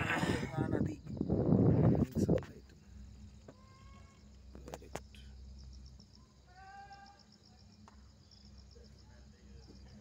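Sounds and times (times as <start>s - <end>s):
insects chirping: 0.0s - 10.0s
low steady hum: 0.0s - 10.0s.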